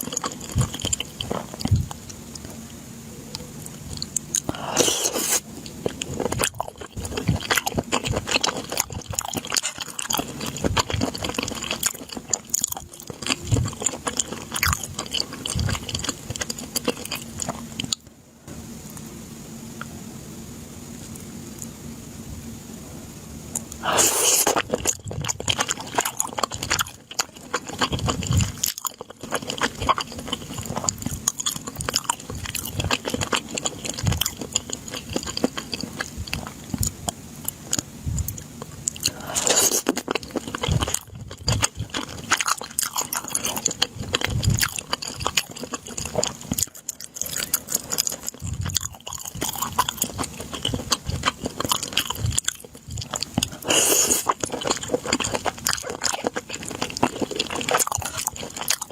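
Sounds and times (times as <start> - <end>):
chewing and biting food: 0.0 - 2.6, 3.3 - 18.1, 23.6 - 58.9.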